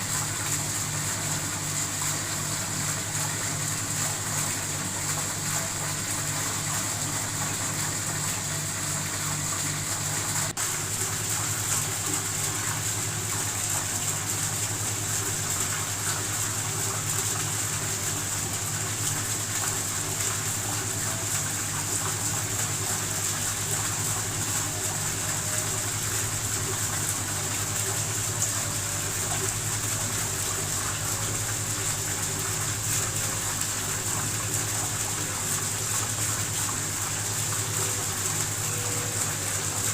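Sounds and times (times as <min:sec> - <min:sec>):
water falling and splashing: 0:00.0 - 0:39.9.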